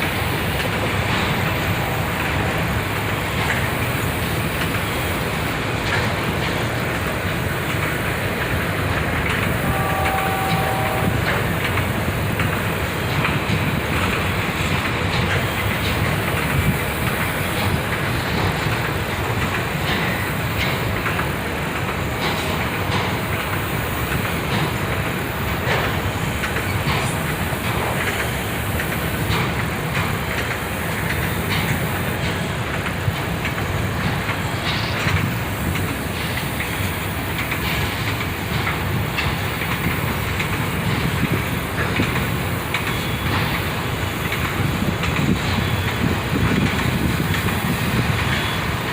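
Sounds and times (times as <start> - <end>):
freight train rolling past: 0.0 - 48.9
wheels clicking over rail joints: 0.0 - 48.9.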